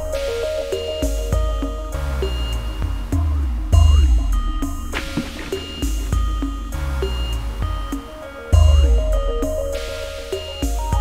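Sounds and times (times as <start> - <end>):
ambient electronic music: 0.0 - 11.0.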